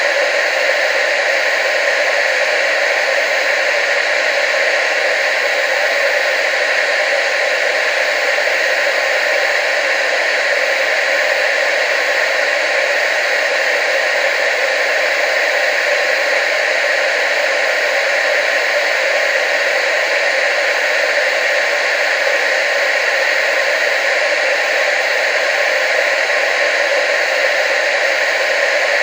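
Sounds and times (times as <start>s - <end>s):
television static hiss: 0.0s - 29.0s.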